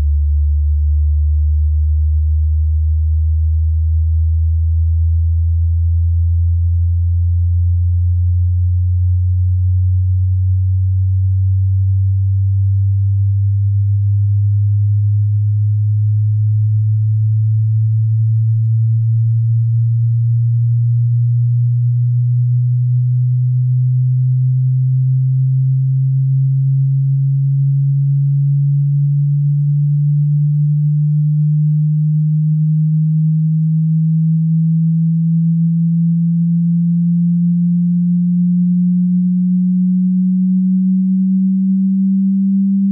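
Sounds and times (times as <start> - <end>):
rising sine tone: 0.0 - 42.9.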